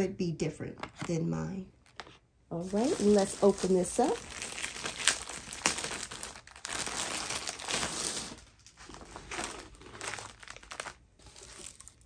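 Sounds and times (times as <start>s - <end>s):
plastic wrapping crinkling: 1.8s - 12.0s.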